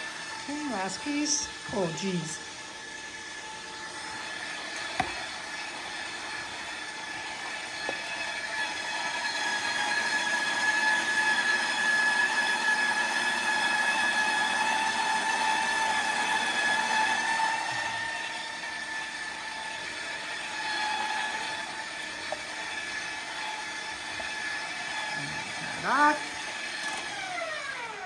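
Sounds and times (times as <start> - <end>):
stand mixer motor whining: 0.0 - 0.5, 2.4 - 28.0.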